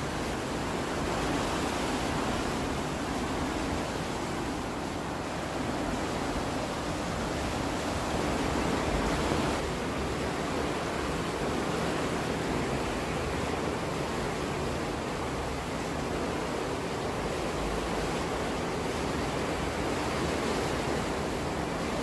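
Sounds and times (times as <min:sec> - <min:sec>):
water rushing through lock sluices: 0:00.0 - 0:22.0.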